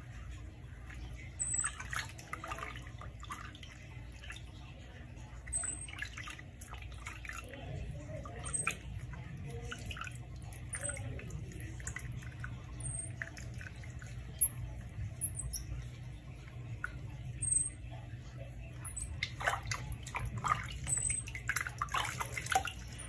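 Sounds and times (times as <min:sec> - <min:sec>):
water dripping and splashing: 0:00.0 - 0:23.0.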